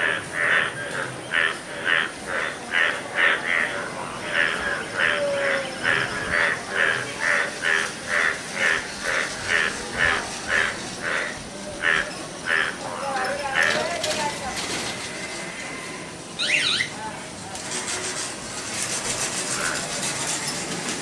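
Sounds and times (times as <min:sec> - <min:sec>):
frogs croaking: 0:00.0 - 0:20.2.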